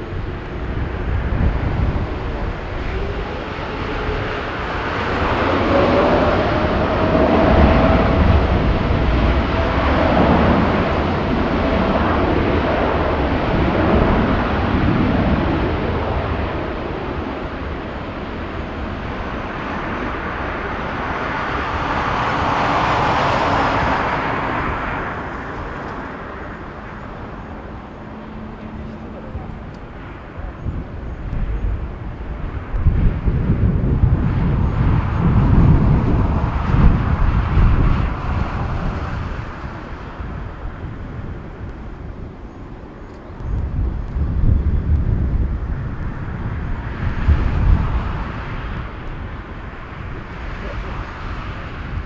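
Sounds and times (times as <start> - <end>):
jet engines passing: 0.0 - 52.0
wind rumble on microphone: 0.0 - 52.0.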